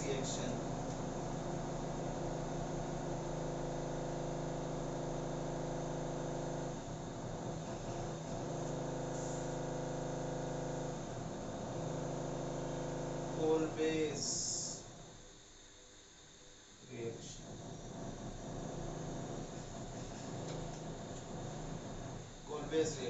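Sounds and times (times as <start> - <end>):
steady electric hum: 0.0 - 23.0.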